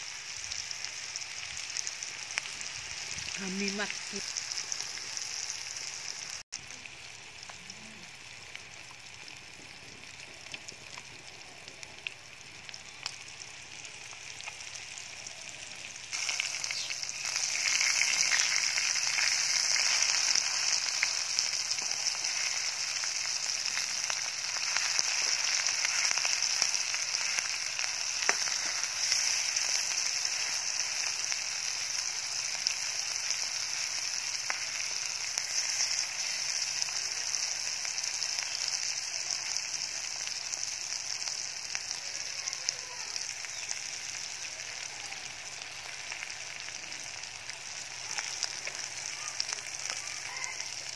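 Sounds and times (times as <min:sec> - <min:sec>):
meat sizzling in hot oil: 0:00.0 - 0:50.9.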